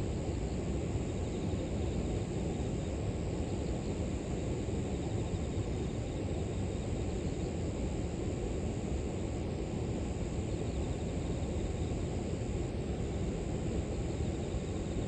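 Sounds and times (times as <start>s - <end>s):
insects chirring in grass: 0.0s - 15.0s.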